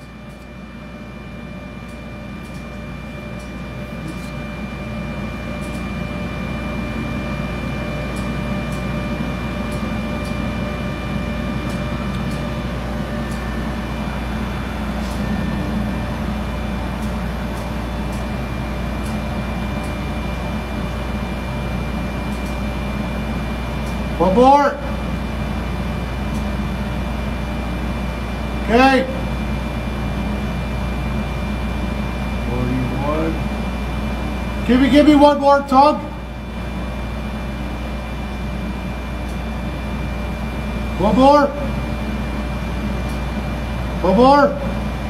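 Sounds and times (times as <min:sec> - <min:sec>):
engine-room machinery drone: 0:00.0 - 0:45.0.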